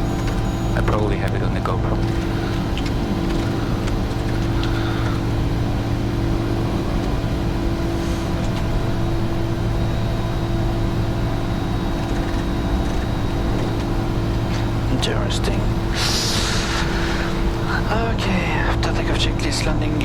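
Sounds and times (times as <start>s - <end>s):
faint high whine: 0.0s - 20.0s
jet cockpit engine and airflow noise: 0.0s - 20.0s.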